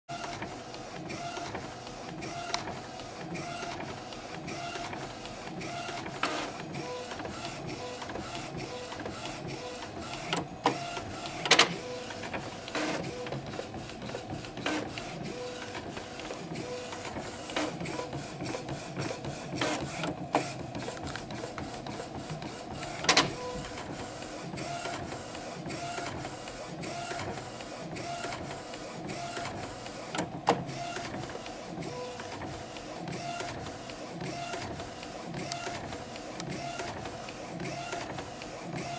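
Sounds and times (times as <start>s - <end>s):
printer motors whirring: 0.1s - 38.9s.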